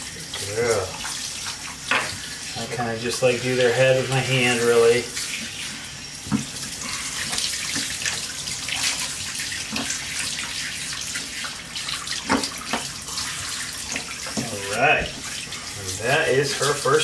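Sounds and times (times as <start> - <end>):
water splashing in tub: 0.0 - 17.0
water spraying from bath sprayer: 0.0 - 17.0.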